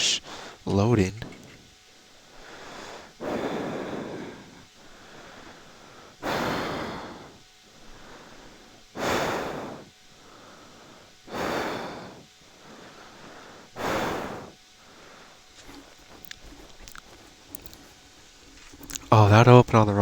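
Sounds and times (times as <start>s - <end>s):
quiet inhales: 0.0s - 19.1s.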